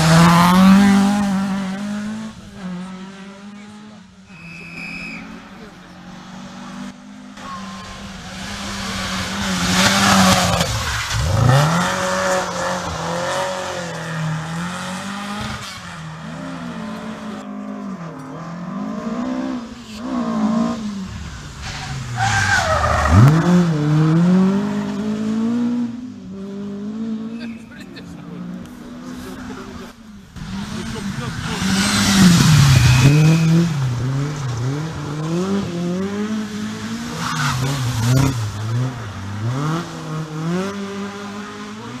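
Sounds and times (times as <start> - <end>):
rally car engine revving: 0.0 - 42.0.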